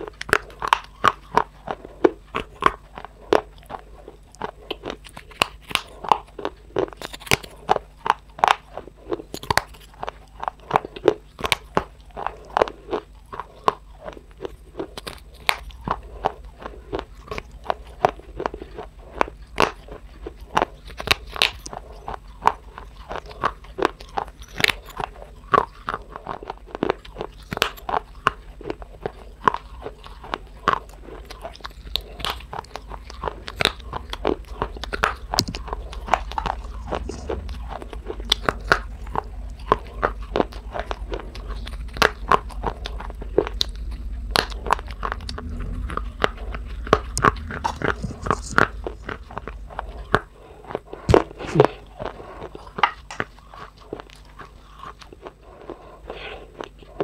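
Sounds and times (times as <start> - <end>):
crunching bites and chewing: 0.0 - 57.0.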